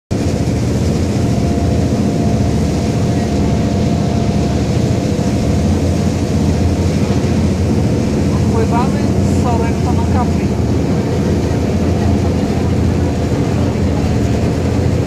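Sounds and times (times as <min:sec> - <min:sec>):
boat engines running: 0:00.1 - 0:15.0
water rushing in wake: 0:00.1 - 0:15.0
faint steady whine: 0:00.2 - 0:15.0.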